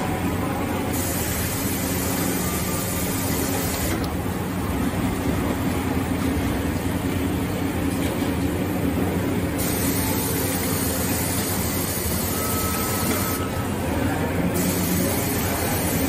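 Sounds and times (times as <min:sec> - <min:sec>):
factory machinery hum: 0:00.0 - 0:16.0.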